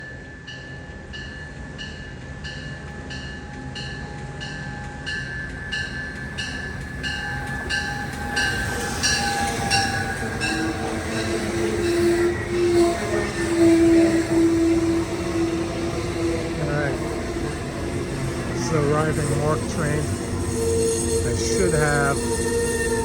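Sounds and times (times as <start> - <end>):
locomotive bell ringing: 0.0 - 23.0
train rumble: 0.0 - 23.0.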